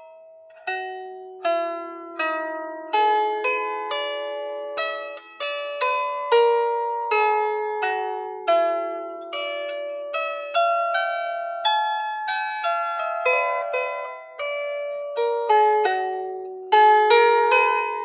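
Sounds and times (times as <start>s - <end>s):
lyre harp plucked melody: 0.0s - 18.0s.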